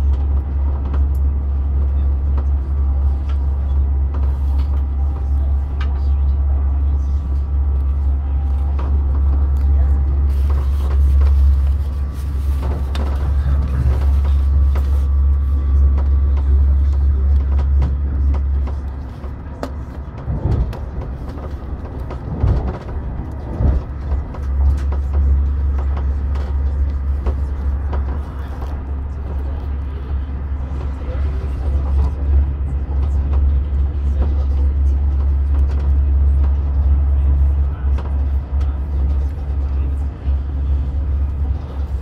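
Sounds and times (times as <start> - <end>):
train rumble inside carriage: 0.0 - 42.0.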